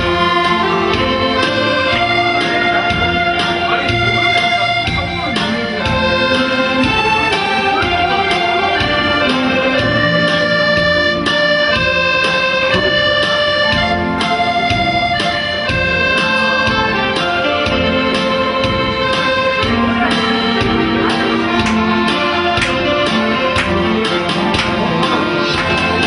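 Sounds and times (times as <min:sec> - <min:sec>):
accordion melody: 0:00.0 - 0:26.0
rhythmic bass accompaniment: 0:00.0 - 0:26.0.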